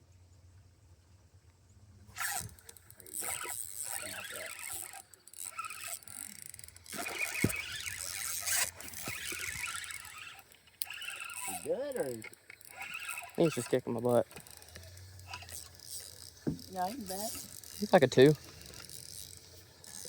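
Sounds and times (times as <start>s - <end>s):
fishing reel ratcheting: 2.1s - 20.0s.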